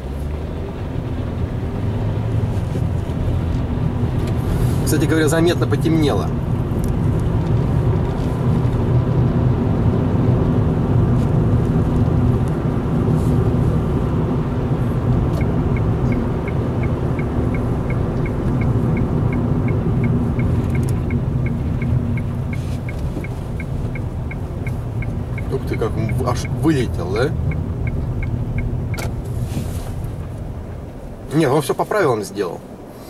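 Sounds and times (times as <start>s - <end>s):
car engine and road noise: 0.0s - 33.0s
turn signal ticking: 0.2s - 31.6s.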